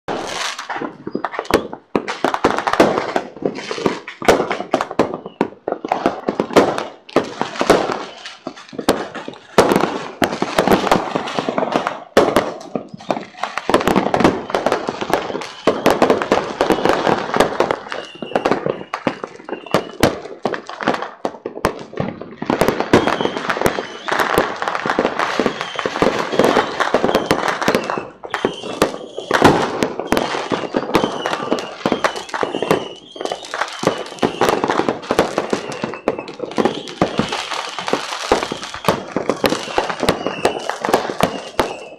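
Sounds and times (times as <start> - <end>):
fireworks cracking and banging: 0.1 - 41.9.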